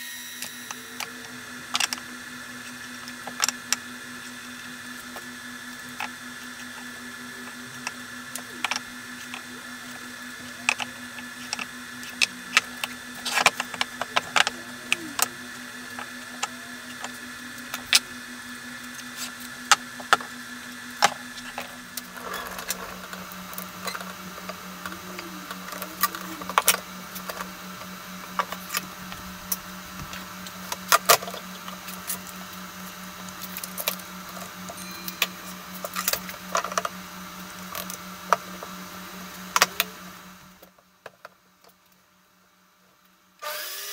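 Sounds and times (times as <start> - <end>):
steady low hum: 0.0 - 43.4.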